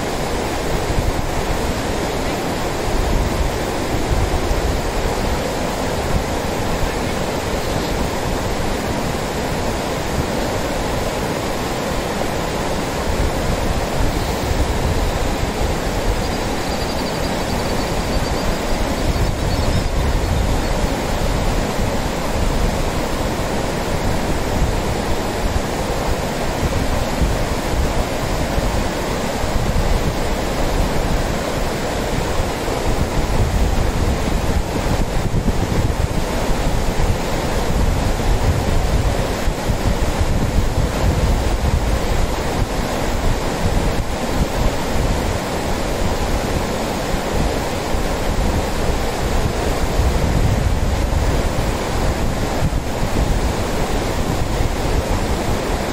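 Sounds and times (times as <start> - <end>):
river rapids rushing over rocks: 0.0 - 55.9.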